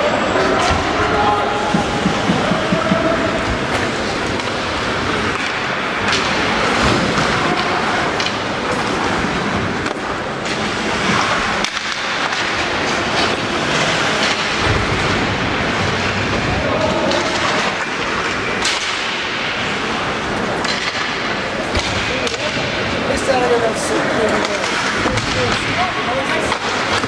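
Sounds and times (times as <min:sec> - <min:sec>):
arena noise: 0:00.0 - 0:27.0
hockey sticks and puck knocking: 0:00.6 - 0:27.0.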